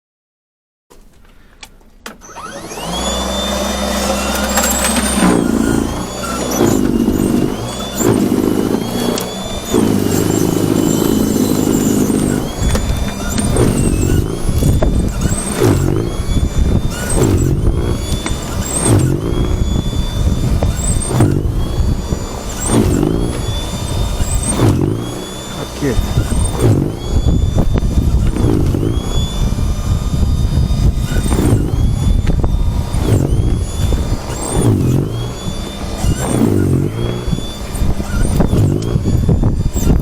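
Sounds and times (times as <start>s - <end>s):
vehicle engine with high whine: 1.4s - 40.0s.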